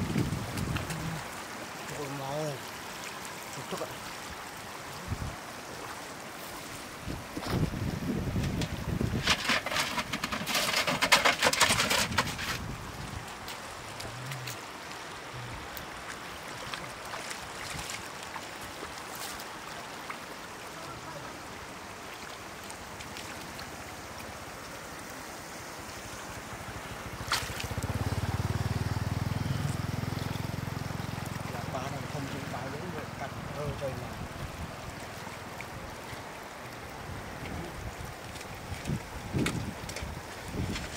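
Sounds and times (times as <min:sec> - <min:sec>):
splashing in shallow water: 0:00.0 - 0:40.9
water trickling across road: 0:00.0 - 0:40.9.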